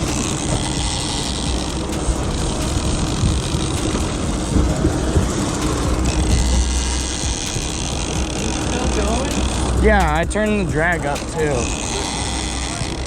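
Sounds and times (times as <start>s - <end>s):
boat engine running: 0.0s - 13.0s
water noise: 0.0s - 13.0s
wind: 0.0s - 13.0s.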